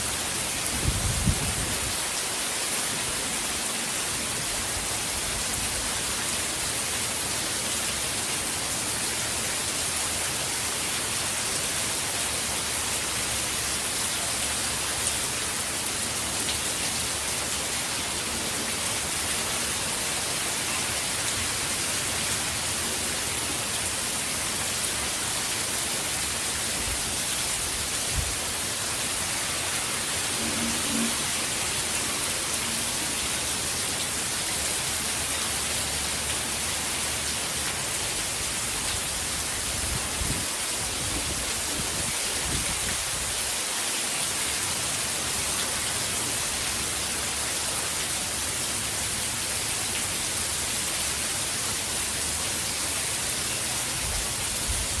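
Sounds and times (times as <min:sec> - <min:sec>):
heavy rain downpour: 0:00.0 - 0:55.0.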